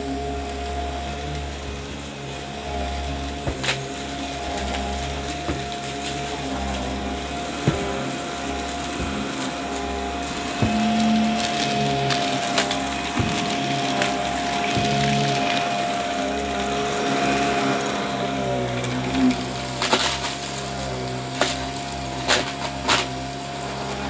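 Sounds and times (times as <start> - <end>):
vacuum cleaner motor whine: 0.0 - 24.0
debris cracking in brushroll: 3.4 - 24.0.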